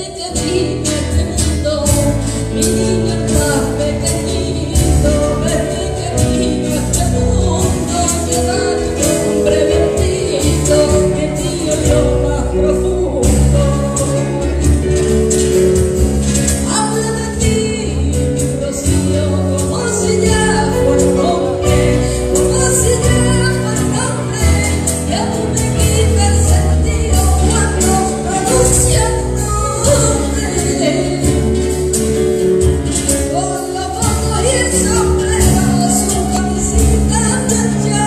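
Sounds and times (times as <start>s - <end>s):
acoustic guitar: 0.0s - 38.0s
drums: 0.0s - 38.0s
woman singing into a microphone: 0.0s - 38.0s.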